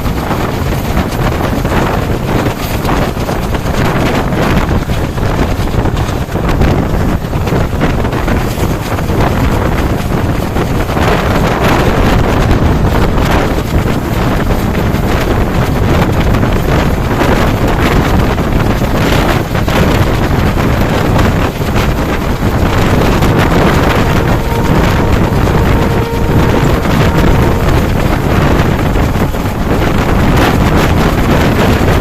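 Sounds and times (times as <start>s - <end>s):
wheel and track noise: 0.0s - 32.0s
wind buffeting microphone: 0.0s - 32.0s.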